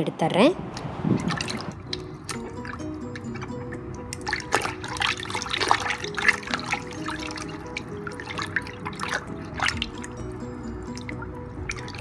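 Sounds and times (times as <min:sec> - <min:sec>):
water splashing in a basin: 0:00.8 - 0:12.0
hand scrubbing tomatoes: 0:01.1 - 0:12.0.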